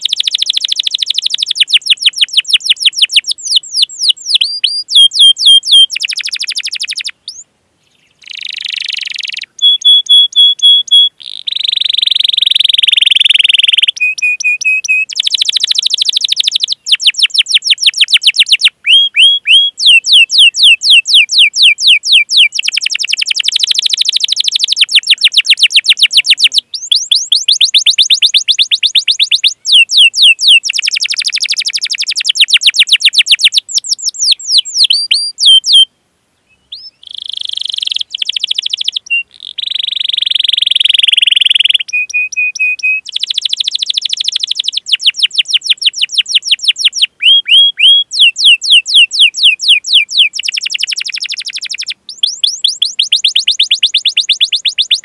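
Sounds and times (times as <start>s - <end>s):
canary chirping: 0.0s - 7.4s, 8.2s - 35.9s, 36.6s - 55.0s.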